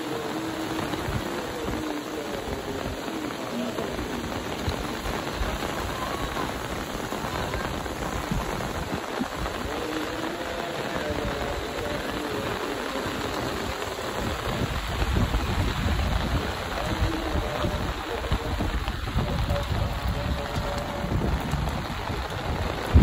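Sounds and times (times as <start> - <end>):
rain falling on wet ground: 0.0 - 23.0.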